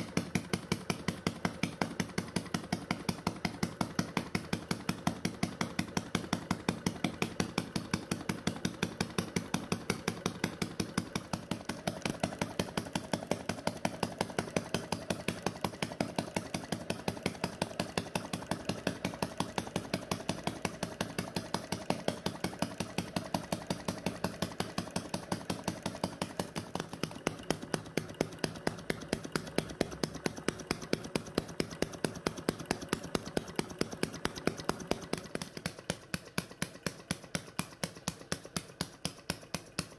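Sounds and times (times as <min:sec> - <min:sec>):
model engine clicking steadily: 0:00.0 - 0:39.9.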